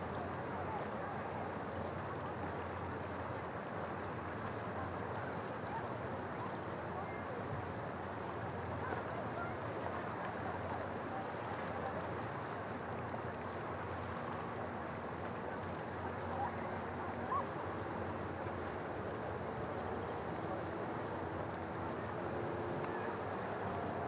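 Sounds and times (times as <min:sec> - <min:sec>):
distant motorboat engine hum: 0:00.0 - 0:24.0.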